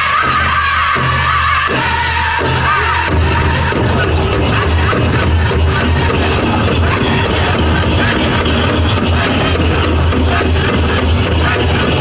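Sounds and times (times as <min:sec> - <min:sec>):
big drum beating: 0:00.0 - 0:12.0
group singing in high voices: 0:00.0 - 0:12.0.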